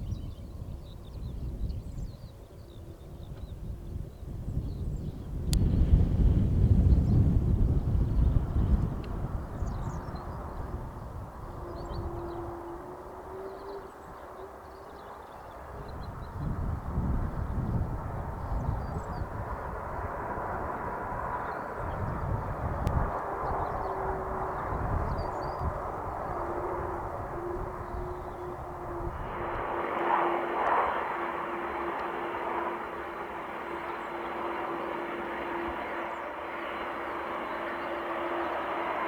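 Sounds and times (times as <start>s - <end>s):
distant jet engines humming: 0.0s - 39.0s.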